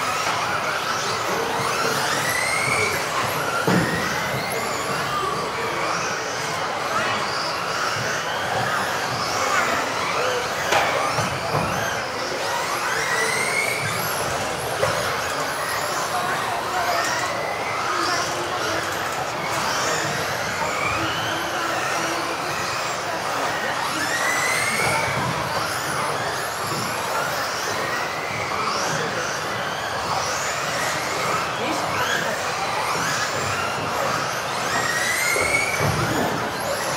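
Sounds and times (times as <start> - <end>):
electric motors whining: 0.0 - 36.9.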